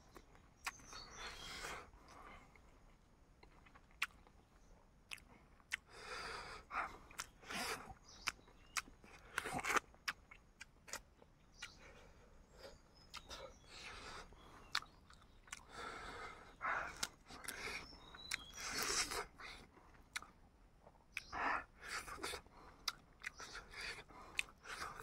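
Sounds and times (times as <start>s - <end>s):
person chewing and crunching: 0.1s - 2.7s, 3.4s - 6.2s, 6.8s - 12.0s, 12.6s - 25.0s.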